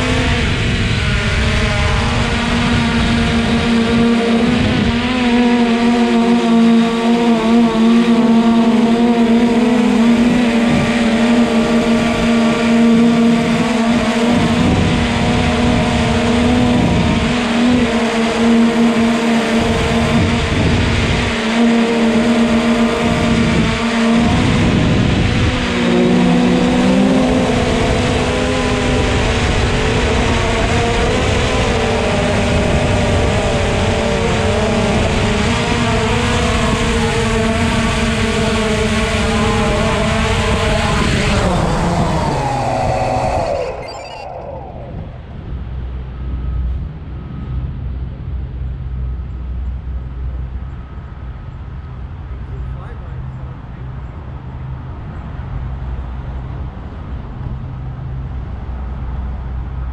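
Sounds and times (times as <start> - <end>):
drone motors humming: 0.0 - 59.9
wind rumble on microphone: 0.0 - 59.9.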